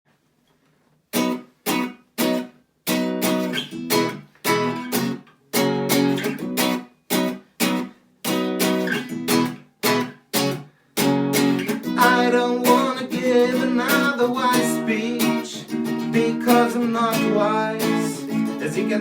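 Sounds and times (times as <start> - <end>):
acoustic guitar strumming: 1.2 - 19.0.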